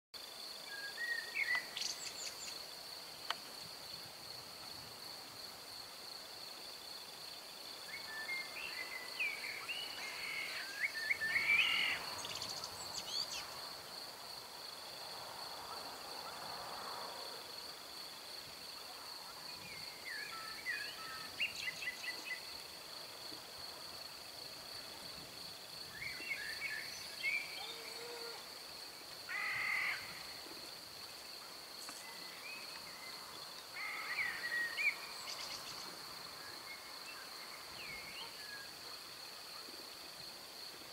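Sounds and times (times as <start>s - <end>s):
crickets trilling: 0.2s - 40.9s.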